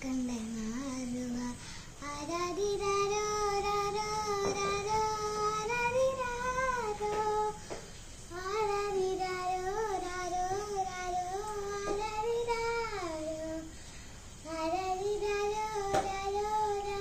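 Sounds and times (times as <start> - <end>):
girl singing unaccompanied: 0.0 - 17.0.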